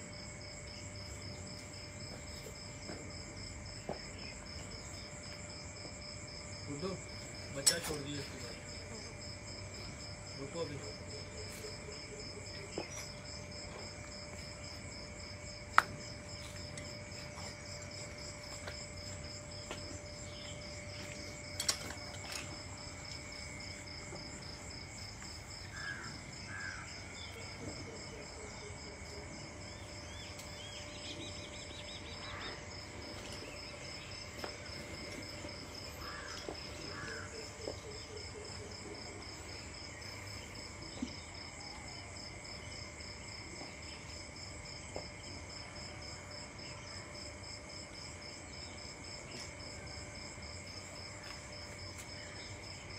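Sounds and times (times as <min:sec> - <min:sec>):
crickets and insects trilling: 0:00.0 - 0:52.9.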